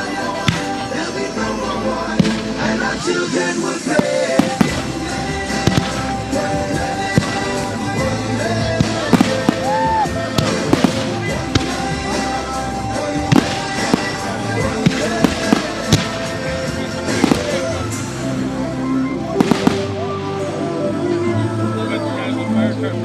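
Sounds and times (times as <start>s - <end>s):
fireworks bangs and crackles: 0.0s - 20.7s
music playing: 0.0s - 23.0s.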